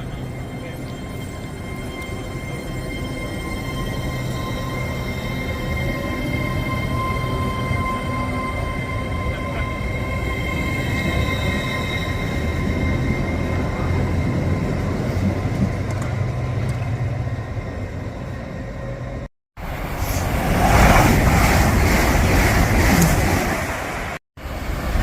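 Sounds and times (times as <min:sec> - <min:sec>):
train rushing: 0:00.0 - 0:25.0
train whine over rumble: 0:00.0 - 0:25.0.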